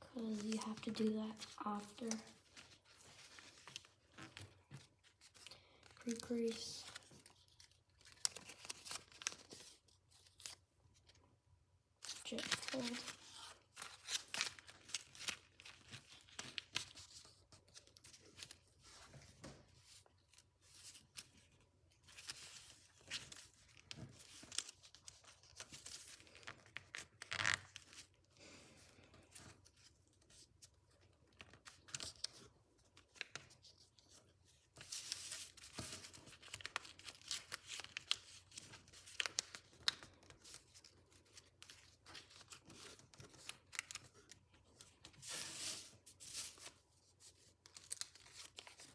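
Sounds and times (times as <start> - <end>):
paper crinkling and rustling: 0.1 - 11.2, 12.0 - 48.9.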